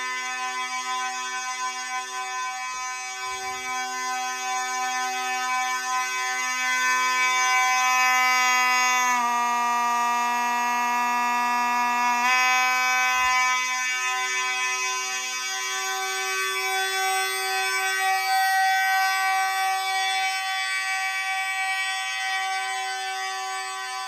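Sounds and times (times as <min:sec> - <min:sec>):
fire alarm horns blaring: 0:00.0 - 0:24.0.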